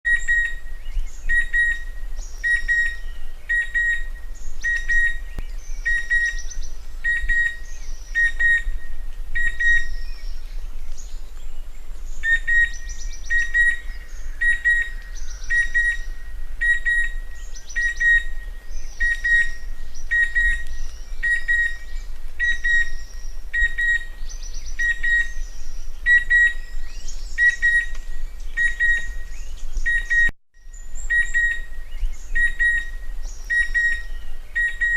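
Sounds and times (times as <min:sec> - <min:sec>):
high bird chirps: 0:00.1 - 0:08.8, 0:12.2 - 0:34.9
cuckoo whistled calls: 0:00.1 - 0:34.9.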